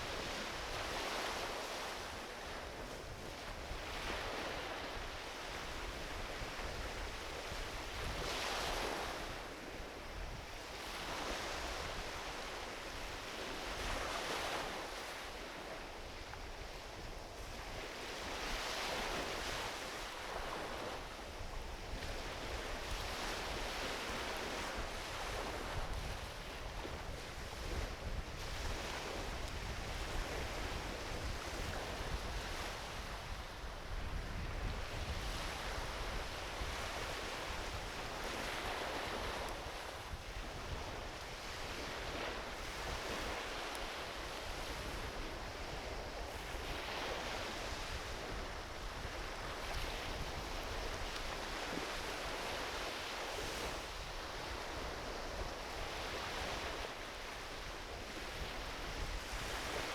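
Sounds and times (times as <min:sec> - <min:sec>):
small waves washing onto beach: 0:00.0 - 0:59.9.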